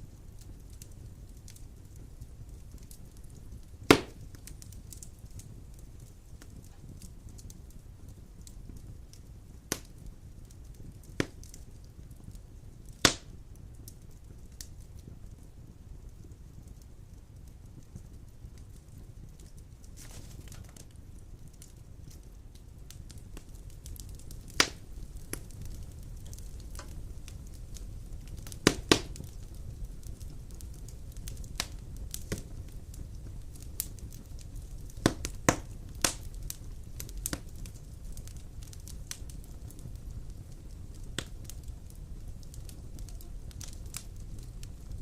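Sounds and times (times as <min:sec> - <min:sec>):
logs crackling and popping in fire: 0:00.0 - 0:45.0
low rumble of flames: 0:00.0 - 0:45.0.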